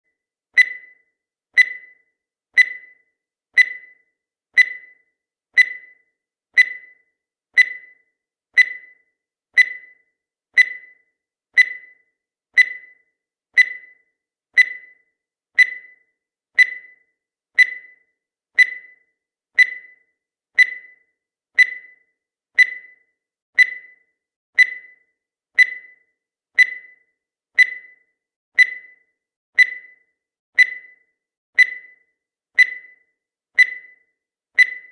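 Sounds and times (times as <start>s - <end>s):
timer beeping: 0.6s - 34.9s.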